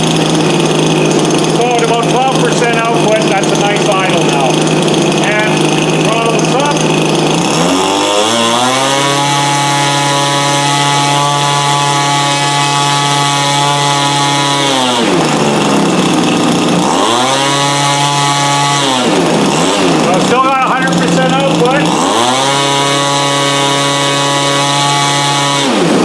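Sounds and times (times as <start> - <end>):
model airplane engine revving: 0.0 - 26.0.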